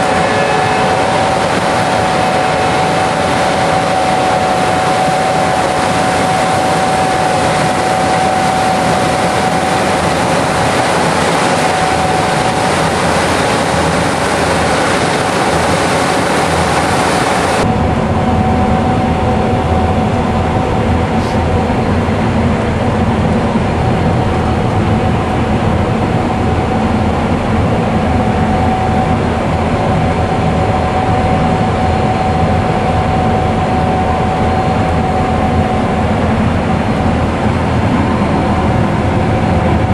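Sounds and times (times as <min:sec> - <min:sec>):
combine harvester machinery drone: 0:00.0 - 0:39.9.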